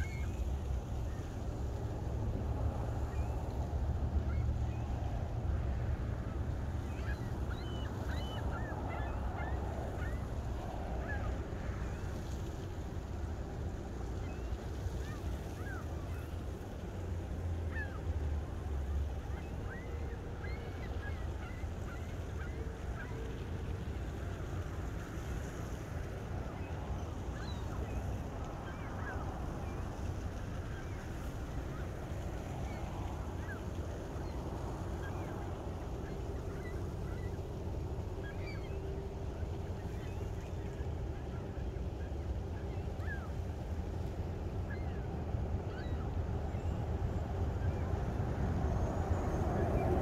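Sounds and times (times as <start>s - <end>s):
waterbirds calling: 0.0s - 50.0s
wind rumble on microphone: 0.0s - 50.0s.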